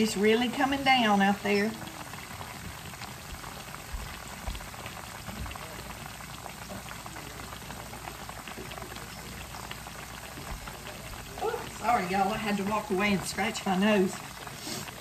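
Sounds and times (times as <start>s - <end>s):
chicken frying crackling sizzle: 0.0s - 15.0s.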